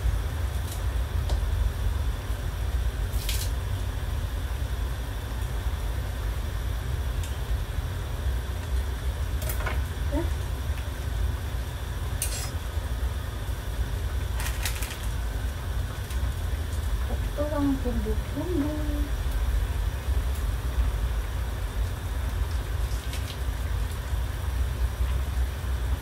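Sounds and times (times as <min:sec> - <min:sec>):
low kitchen rumble: 0:00.0 - 0:26.0.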